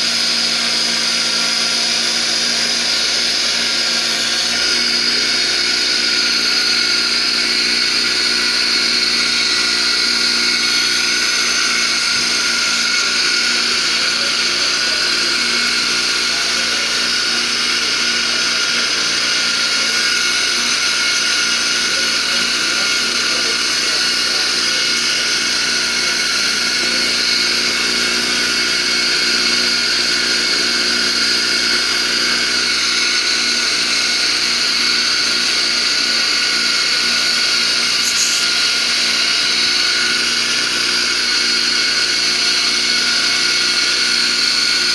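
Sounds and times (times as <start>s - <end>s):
electric grinder whining: 0.0s - 44.9s.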